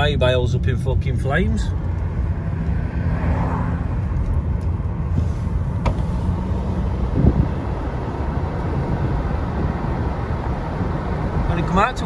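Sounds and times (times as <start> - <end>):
car rumble from inside cabin: 0.0 - 12.0.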